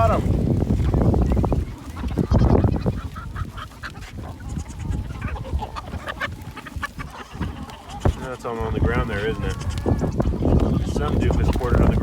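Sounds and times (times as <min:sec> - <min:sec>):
clicks and rustles of feed: 0:00.0 - 0:12.0.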